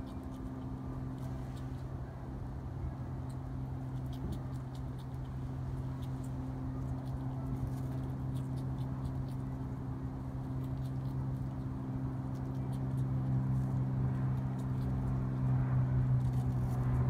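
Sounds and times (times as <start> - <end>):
skunk eating with clicks and crunches: 0.0 - 17.0
steady low hum: 0.0 - 17.0.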